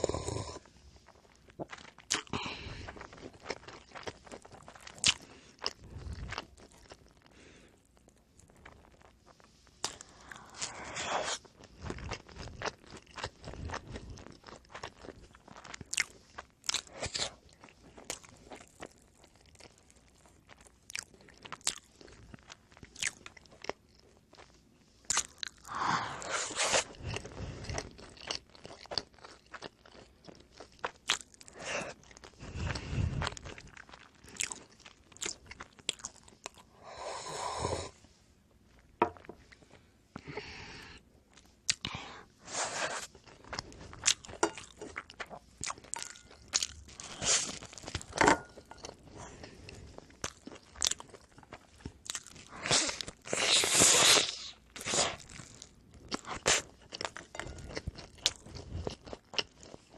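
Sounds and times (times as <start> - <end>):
crisp crunches of chewing: 0.6 - 36.7, 41.3 - 59.9.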